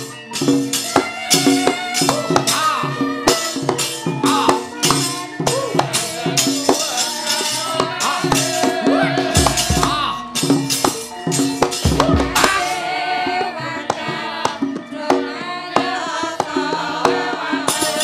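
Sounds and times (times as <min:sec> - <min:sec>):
gamelan playing fast music: 0:00.0 - 0:16.0.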